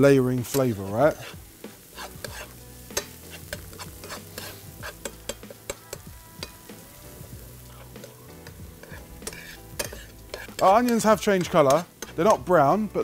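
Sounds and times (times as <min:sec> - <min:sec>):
food sizzling in oil: 0:00.0 - 0:13.0
utensil scraping frying pan: 0:00.2 - 0:13.0.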